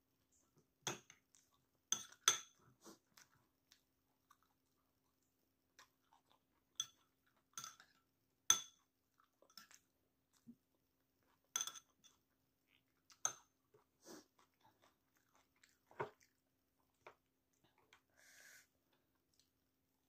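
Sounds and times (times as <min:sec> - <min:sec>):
chewing and crunching food: 0:00.2 - 0:18.1, 0:18.7 - 0:20.0.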